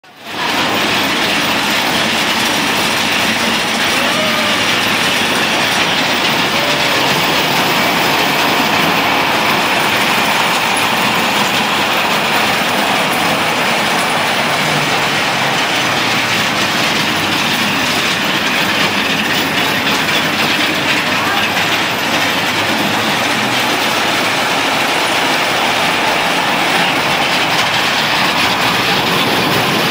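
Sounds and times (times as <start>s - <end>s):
roller coaster wheels rolling on track: 0.0s - 29.9s.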